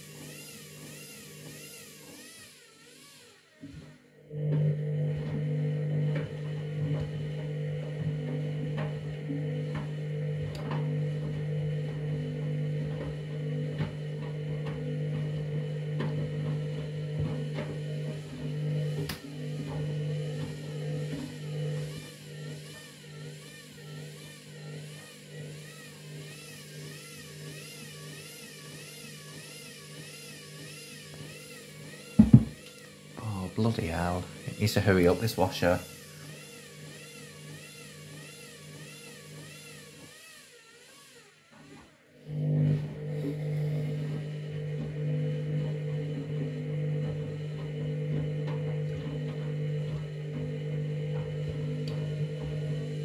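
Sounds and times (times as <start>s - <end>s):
washing machine motor hum: 0.0s - 3.0s, 3.6s - 40.8s, 41.8s - 53.0s.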